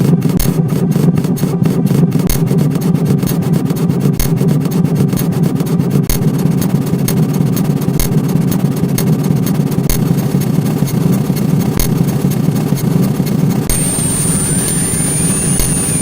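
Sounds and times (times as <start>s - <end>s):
sharp click: 0.0s - 13.8s
dense low buzz: 0.0s - 16.0s.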